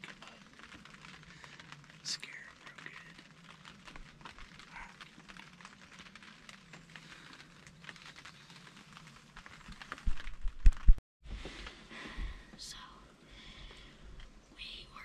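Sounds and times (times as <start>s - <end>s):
light rain pattering on fabric: 0.0s - 15.0s.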